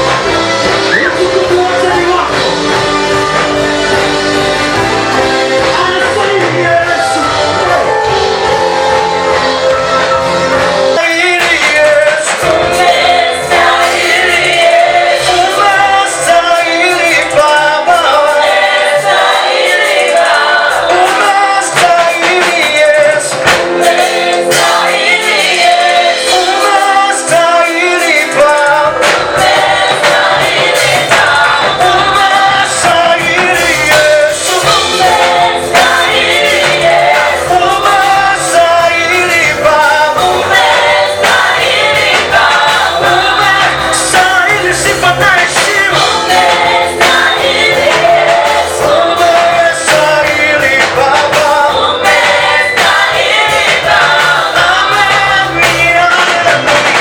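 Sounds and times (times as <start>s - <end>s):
gospel group singing: 0.0s - 57.0s
instrumental backing: 0.0s - 57.0s.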